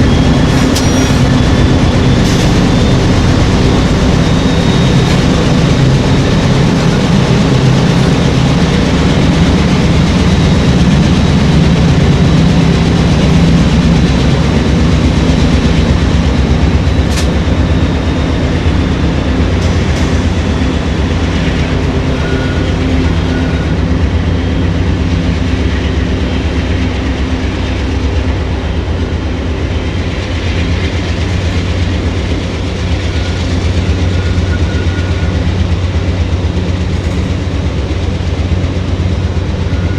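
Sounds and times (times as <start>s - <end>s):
train rumbling over bridge: 0.0s - 39.9s.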